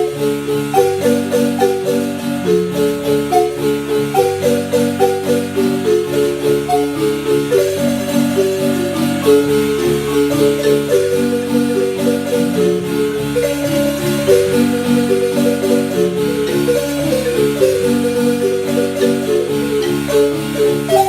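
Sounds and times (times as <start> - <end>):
marimba music: 0.0 - 21.0.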